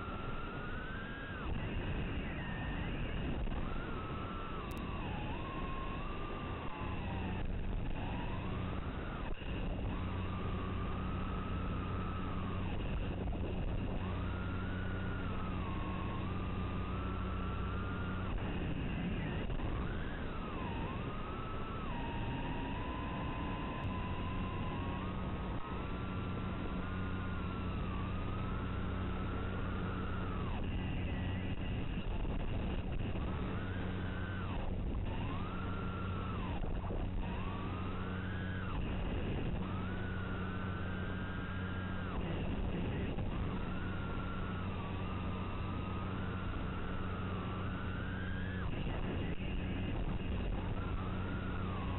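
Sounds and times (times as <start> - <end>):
drone motors whining: 0.0 - 51.9
low hum: 0.0 - 51.9.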